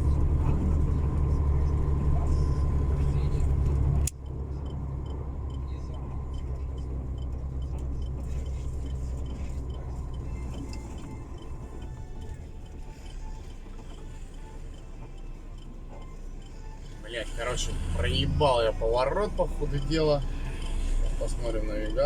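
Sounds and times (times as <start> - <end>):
truck engine droning: 0.0 - 22.0
faint regular ticking: 3.6 - 22.0.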